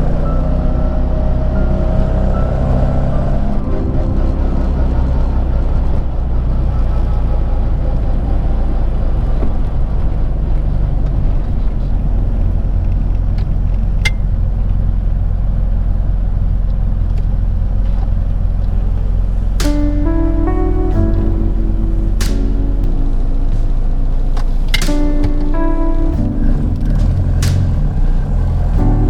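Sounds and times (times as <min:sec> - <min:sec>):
car engine low rumble: 0:00.0 - 0:29.0.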